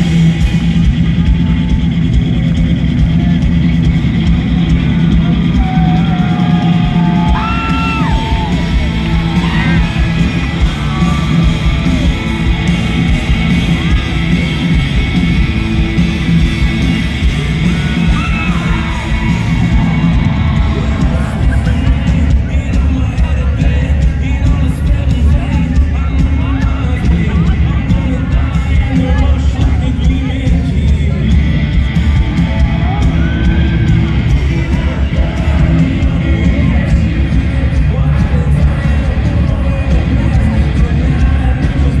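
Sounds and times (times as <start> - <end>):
crowd yelling: 0.0 - 42.0
live rock music: 0.0 - 42.0
crowd singing along: 4.2 - 42.0.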